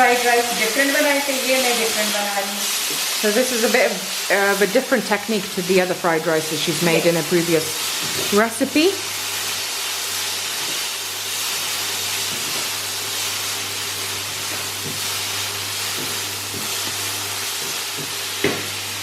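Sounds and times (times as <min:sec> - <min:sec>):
chicken sizzling in frying pan: 0:00.0 - 0:19.0.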